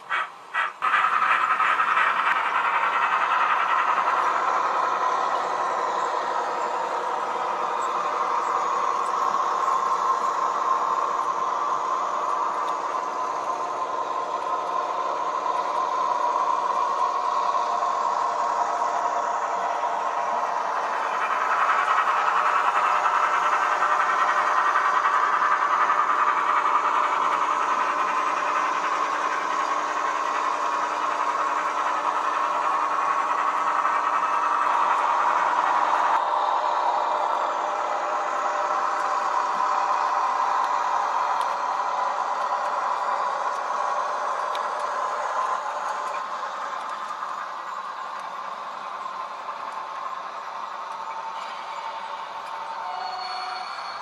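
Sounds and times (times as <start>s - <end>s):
model train engine hum: 0.0s - 54.0s.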